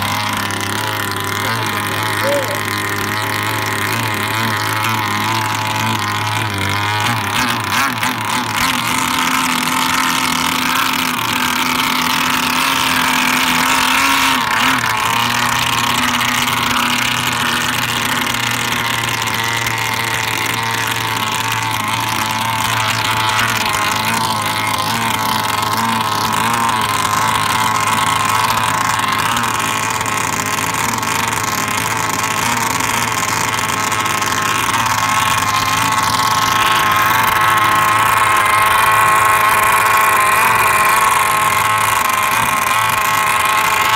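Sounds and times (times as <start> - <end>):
two-stroke engine idling: 0.0 - 43.9.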